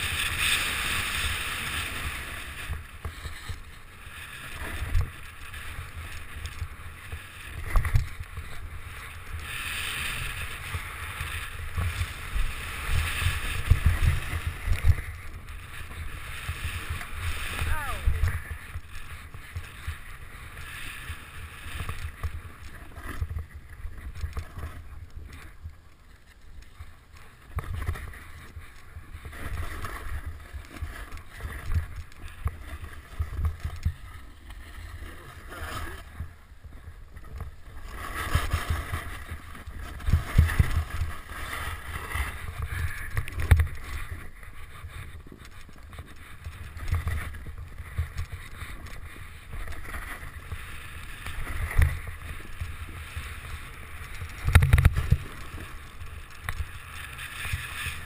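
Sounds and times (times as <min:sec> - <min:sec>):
skis scraping over snow: 0:00.0 - 0:58.0.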